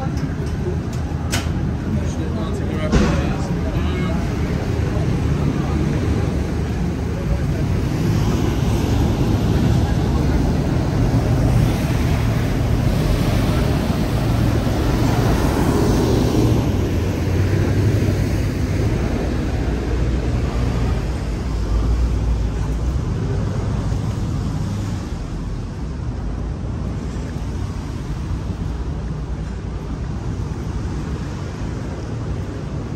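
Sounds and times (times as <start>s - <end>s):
boat engine droning: 0.0s - 32.9s
water noise: 0.0s - 32.9s
wind: 0.0s - 32.9s.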